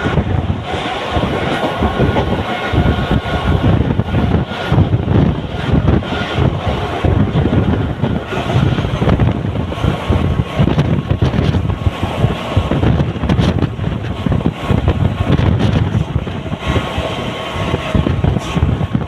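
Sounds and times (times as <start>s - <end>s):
train coaches rumbling: 0.0s - 19.0s
wind buffeting microphone: 0.0s - 19.0s.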